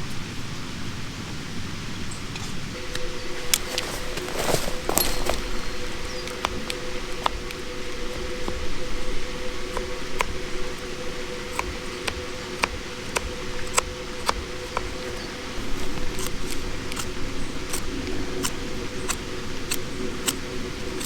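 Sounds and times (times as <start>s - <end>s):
faint steady hum: 0.0s - 21.0s
low fire hiss: 0.0s - 21.0s
campfire crackling and popping: 2.8s - 21.0s.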